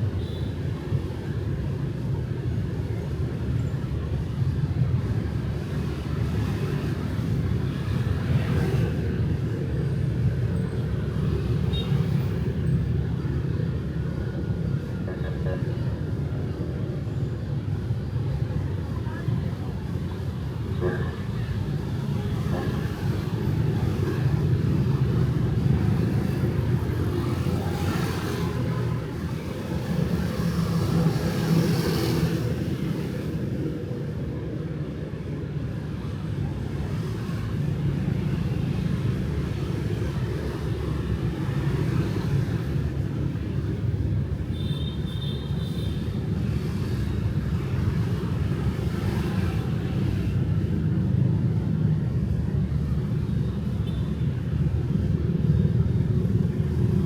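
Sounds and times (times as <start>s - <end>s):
low traffic rumble: 0.0s - 57.0s
motorbikes and cars passing: 0.0s - 57.0s.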